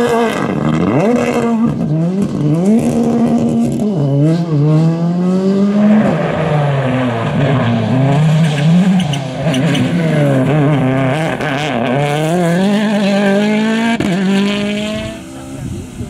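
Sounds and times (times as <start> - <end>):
rally car engines at full throttle: 0.0 - 16.0.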